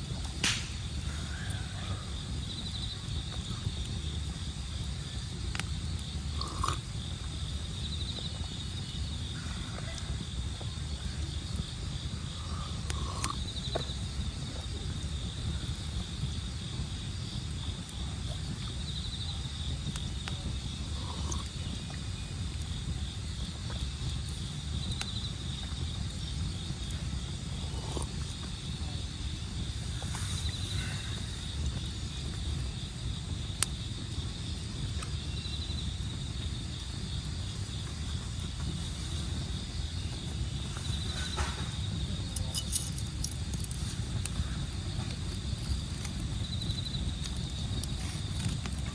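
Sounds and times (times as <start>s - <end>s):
campfire crackling: 0.0s - 48.9s
insects trilling: 0.0s - 48.9s
low fire rumble: 0.0s - 48.9s.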